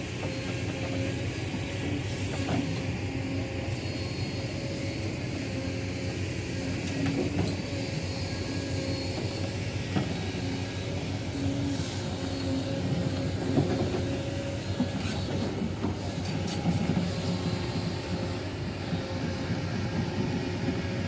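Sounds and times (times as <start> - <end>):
diesel machinery running: 0.0 - 21.0.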